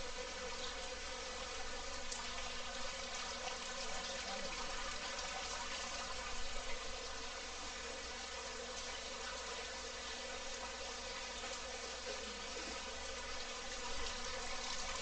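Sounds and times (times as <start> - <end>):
water trickling and bubbling: 0.0 - 15.0.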